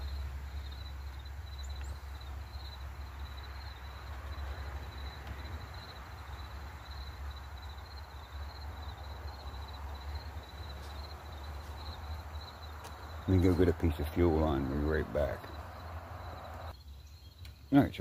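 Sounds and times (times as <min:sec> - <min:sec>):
insects chirping trill: 0:00.0 - 0:18.0.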